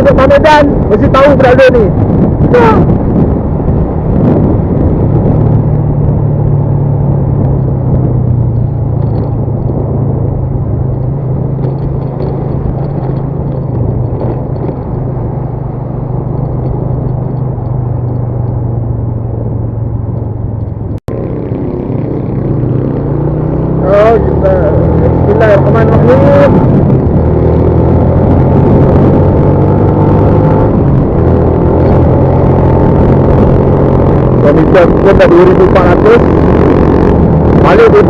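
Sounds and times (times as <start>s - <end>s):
motorcycle engine running: 0.0s - 38.0s
wind and road noise: 0.0s - 38.0s.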